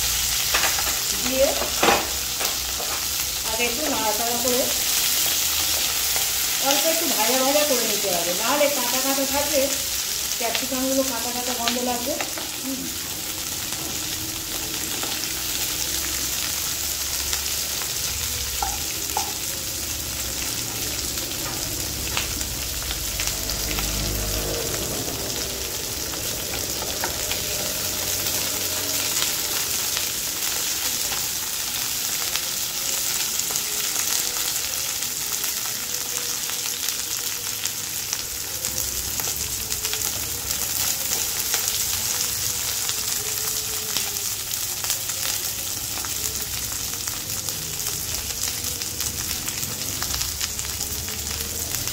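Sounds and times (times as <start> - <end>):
vegetables sizzling in oil: 0.0 - 51.9.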